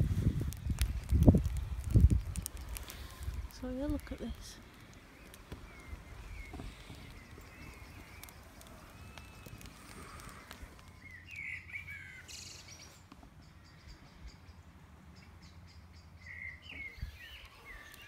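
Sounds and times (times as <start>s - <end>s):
songbird chirping: 1.5s - 18.0s.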